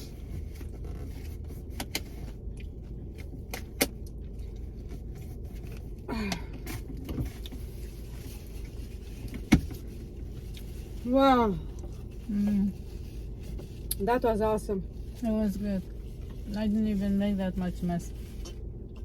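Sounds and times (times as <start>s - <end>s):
low rumble inside car: 0.0s - 19.0s
rustling food and napkins: 0.0s - 19.0s.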